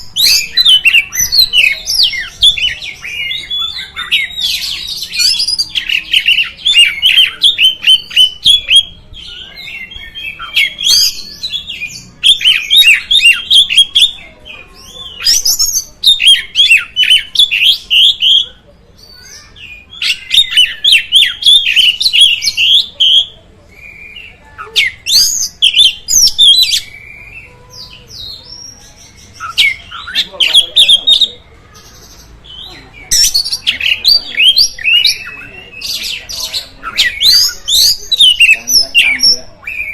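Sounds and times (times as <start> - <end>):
bird chirping and whistling: 0.0 - 14.2, 14.8 - 18.5, 19.2 - 31.4, 32.6 - 39.9.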